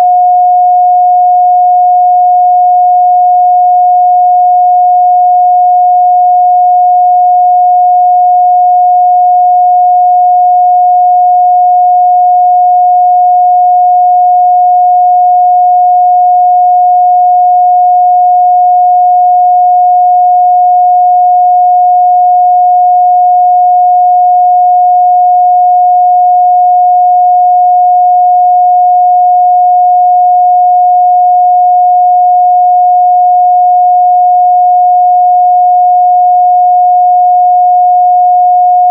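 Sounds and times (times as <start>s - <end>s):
sine-wave test tone: 0.0s - 38.9s.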